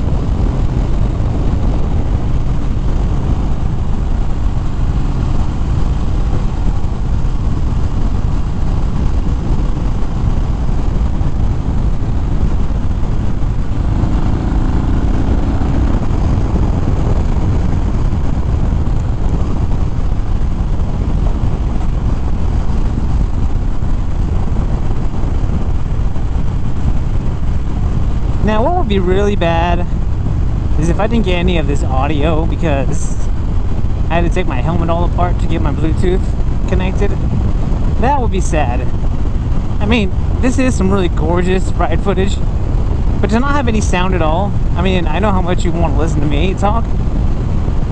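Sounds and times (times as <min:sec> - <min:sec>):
motorcycle engine drone: 0:00.0 - 0:47.9
wind rush: 0:00.0 - 0:47.9.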